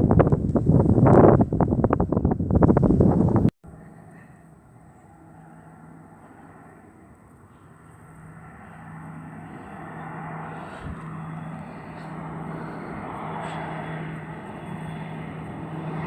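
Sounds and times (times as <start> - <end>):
turboprop engines droning: 0.0 - 16.0.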